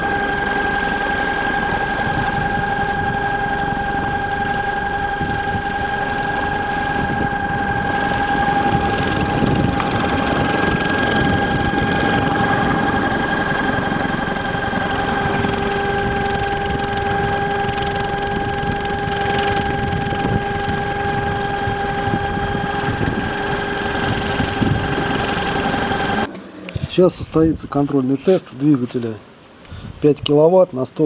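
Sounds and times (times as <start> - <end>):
electric motor whining: 0.0 - 26.3
rough mechanical rumble: 0.0 - 26.3.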